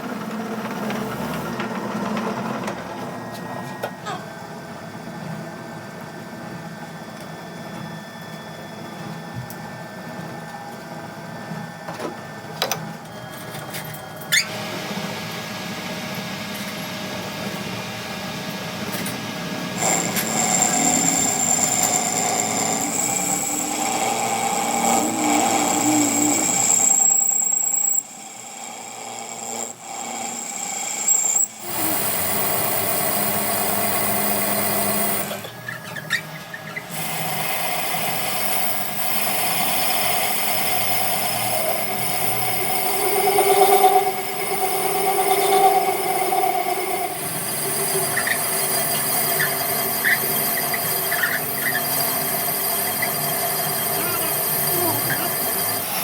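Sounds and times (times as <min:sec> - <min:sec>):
electric power tool whining: 0:09.0 - 0:56.0.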